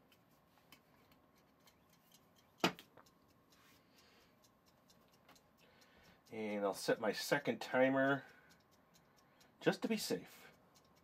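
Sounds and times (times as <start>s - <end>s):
kitchen timer ticking: 0.0s - 11.0s.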